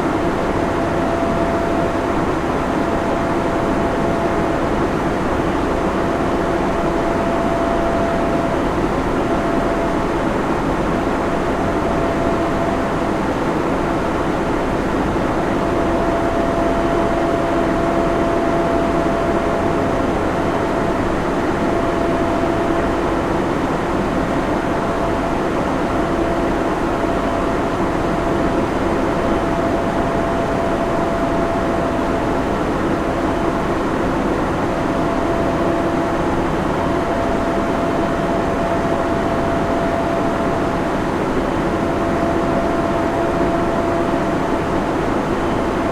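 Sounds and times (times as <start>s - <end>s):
cooling fans rushing: 0.0s - 45.9s
steady whine: 0.0s - 45.9s.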